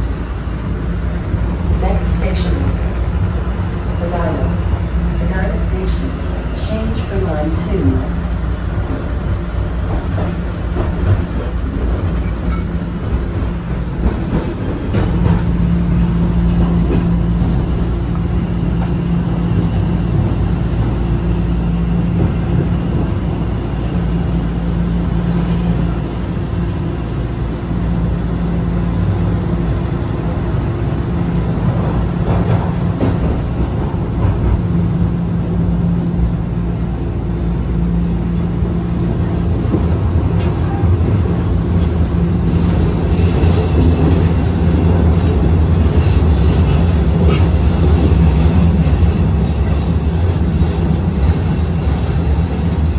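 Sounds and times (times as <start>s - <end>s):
subway train rumbling on rails: 0.0s - 52.9s.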